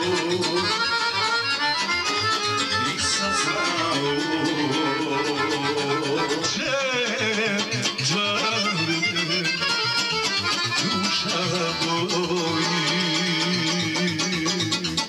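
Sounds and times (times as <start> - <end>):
man singing into a microphone: 0.0 - 1.2, 2.7 - 15.0
accordion: 0.0 - 15.0
steady beat: 0.0 - 15.0.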